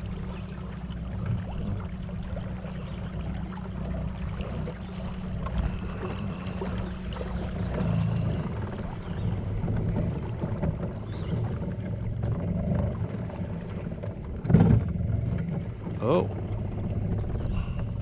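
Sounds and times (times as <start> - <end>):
boat motor running: 0.0 - 18.0
water rushing along hull: 0.0 - 18.0.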